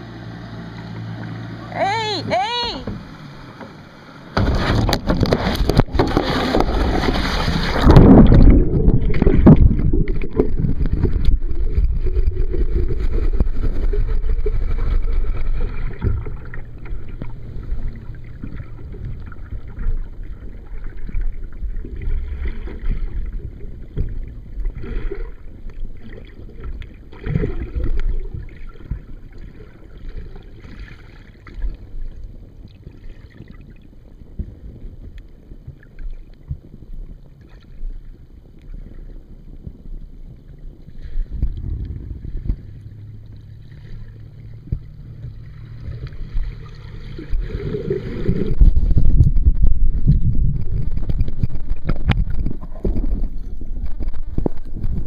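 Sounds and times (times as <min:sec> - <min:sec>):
handling rumble on microphone: 0:00.8 - 0:55.0.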